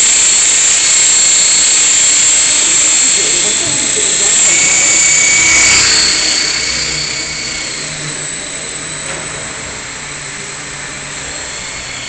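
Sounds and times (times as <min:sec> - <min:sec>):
rc helicopter whine: 0:00.0 - 0:12.0.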